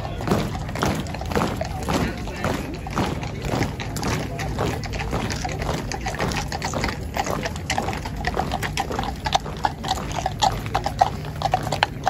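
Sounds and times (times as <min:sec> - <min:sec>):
horseshoes clip-clopping on road: 0:00.0 - 0:12.0.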